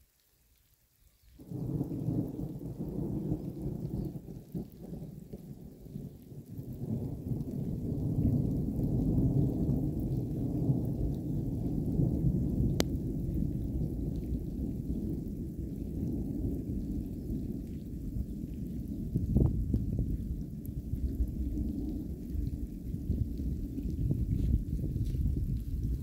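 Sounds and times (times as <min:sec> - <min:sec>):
distant rolling thunder: 0:01.4 - 0:26.0.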